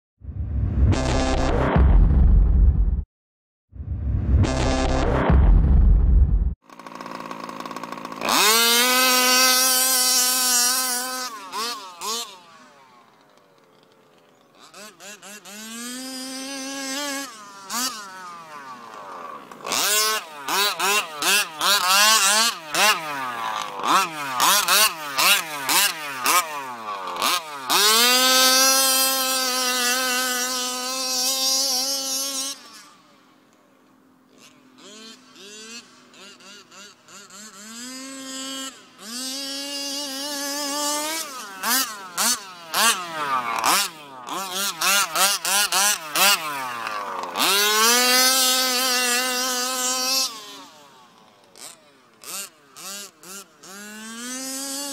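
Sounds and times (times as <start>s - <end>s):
two-stroke engine revving: 0.2s - 3.0s, 3.8s - 54.9s.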